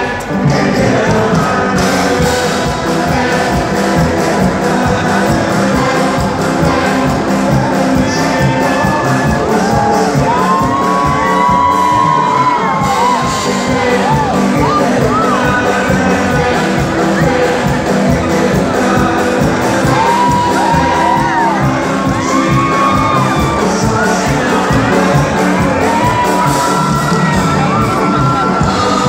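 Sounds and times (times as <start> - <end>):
live band music over pa: 0.0 - 29.0
crowd shouting and whooping: 1.7 - 29.0.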